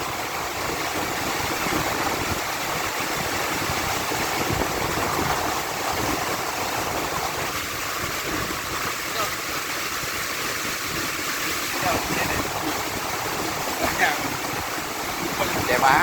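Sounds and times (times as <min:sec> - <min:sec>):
heavy rain hissing: 0:00.0 - 0:16.0
strong wind gusting: 0:00.0 - 0:16.0.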